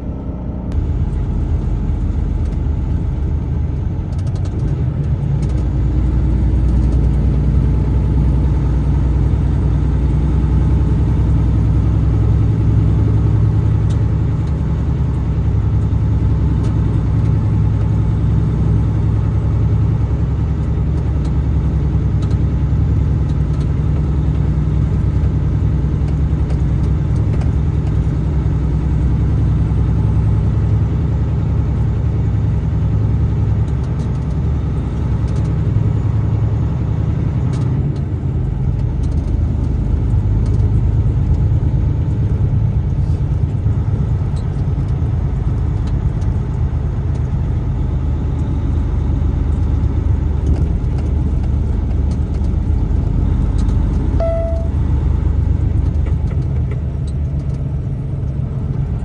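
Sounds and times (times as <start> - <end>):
truck driving low rumble: 0.0 - 59.0.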